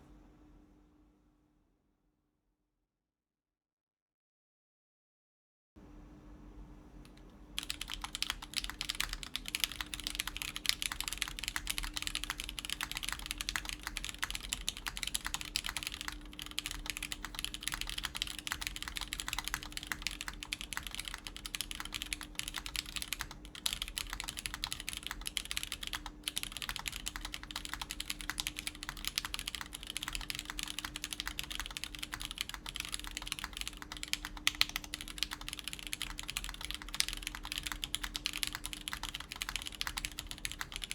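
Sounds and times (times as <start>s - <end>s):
fast typing on mechanical keyboard: 7.6s - 40.9s.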